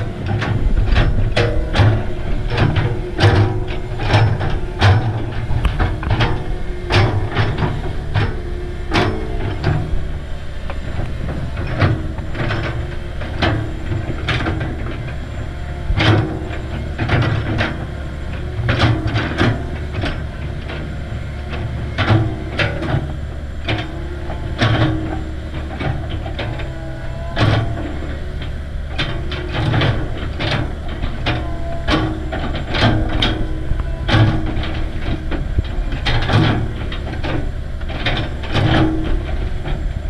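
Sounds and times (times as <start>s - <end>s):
excavator diesel engine droning: 0.0s - 40.0s.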